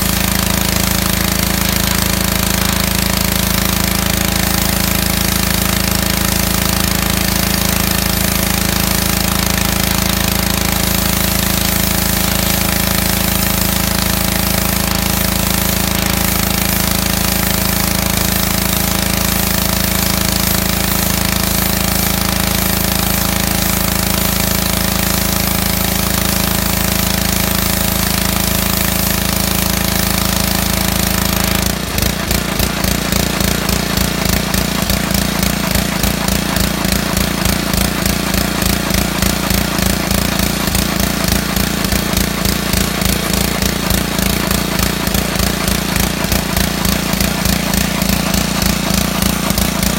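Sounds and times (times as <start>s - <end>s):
pressure washer engine running: 0.0s - 49.9s.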